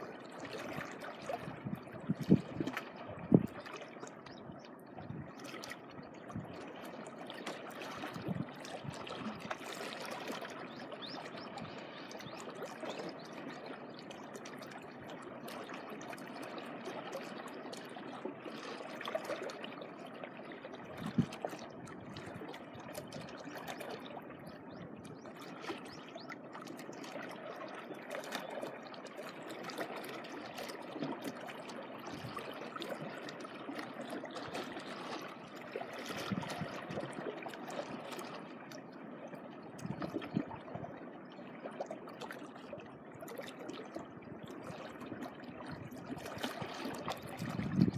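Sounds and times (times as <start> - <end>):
seawater lapping at shore: 0.0 - 47.9.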